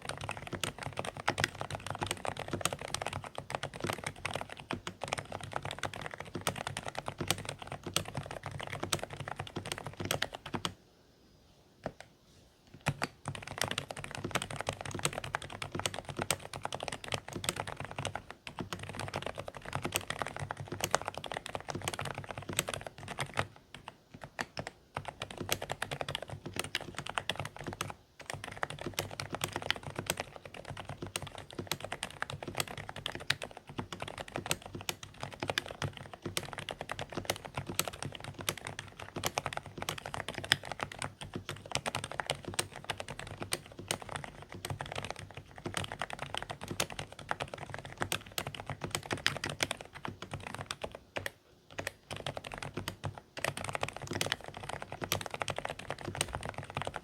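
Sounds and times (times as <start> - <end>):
muffled keyboard typing: 0.0 - 10.8, 11.8 - 12.1, 12.7 - 57.0.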